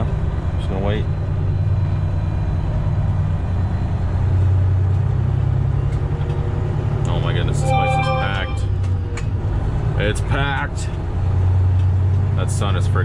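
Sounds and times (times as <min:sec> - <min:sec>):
truck diesel engine drone: 0:00.0 - 0:12.8.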